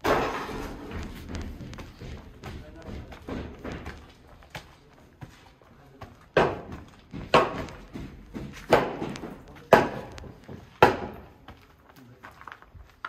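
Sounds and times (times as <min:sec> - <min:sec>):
footsteps on concrete: 0:00.1 - 0:13.0.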